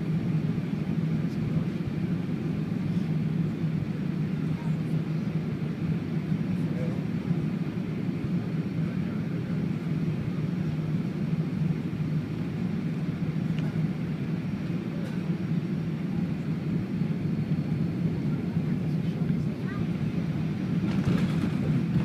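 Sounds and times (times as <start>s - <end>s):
airflow in aircraft cabin: 0.0s - 22.0s
jet engines humming: 0.0s - 22.0s.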